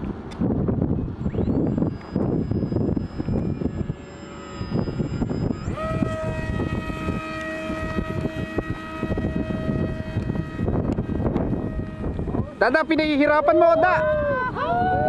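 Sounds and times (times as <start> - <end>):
model plane motor whine: 0.0 - 15.0
wind buffeting microphone: 0.0 - 15.0.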